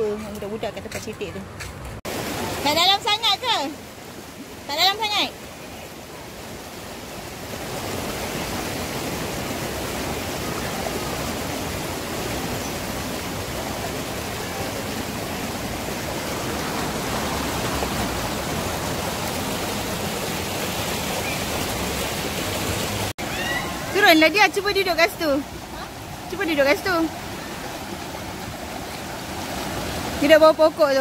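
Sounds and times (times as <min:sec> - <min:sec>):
river rushing over rocks: 0:02.1 - 0:31.0.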